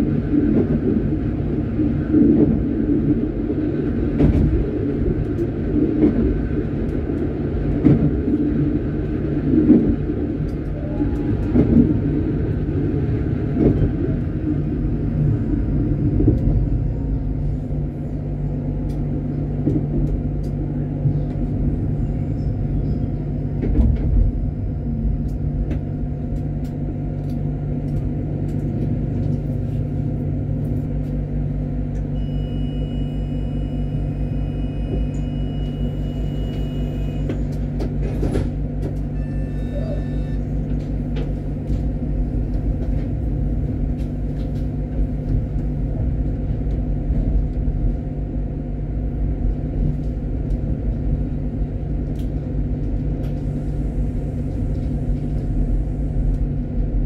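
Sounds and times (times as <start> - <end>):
tram rumbling and humming: 0.0 - 57.0.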